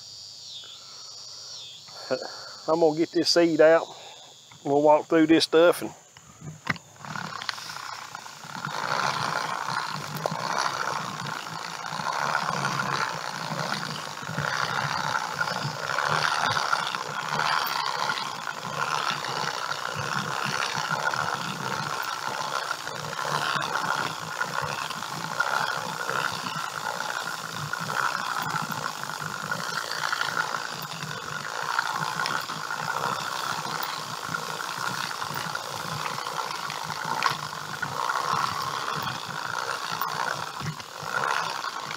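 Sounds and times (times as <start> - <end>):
seeder gears whirring and rattling: 1.6 - 41.9.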